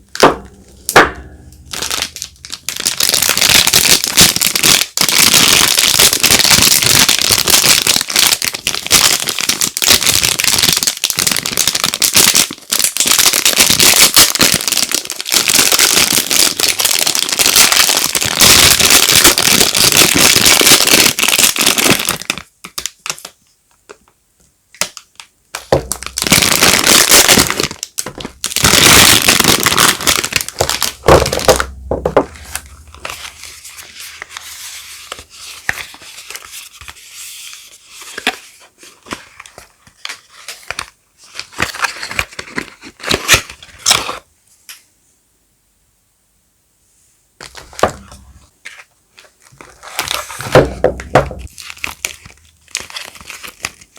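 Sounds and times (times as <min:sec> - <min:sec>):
packaging crinkling: 0:00.0 - 0:23.4, 0:24.8 - 0:44.2, 0:49.1 - 0:53.9.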